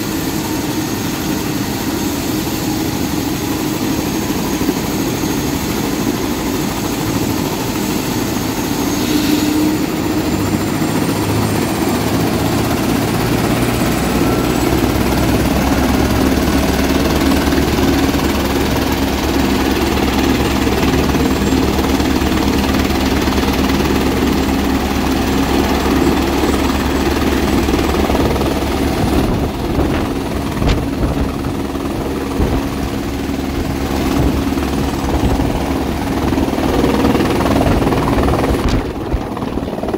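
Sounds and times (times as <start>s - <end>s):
helicopter rotor beat: 0.0s - 39.9s
helicopter turbine whine: 0.0s - 39.9s.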